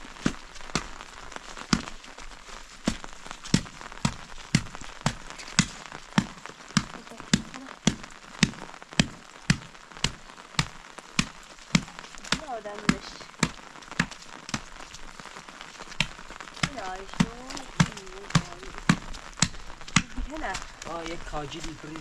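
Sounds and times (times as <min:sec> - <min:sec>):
rain hissing: 0:00.0 - 0:22.0
water dripping: 0:00.0 - 0:22.0.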